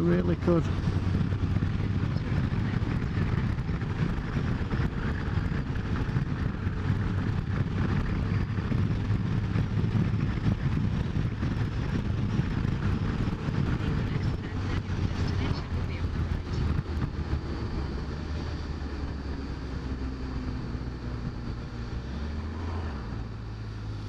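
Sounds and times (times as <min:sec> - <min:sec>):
motorcycle engine hum: 0:00.0 - 0:24.0
wind noise: 0:00.0 - 0:24.0.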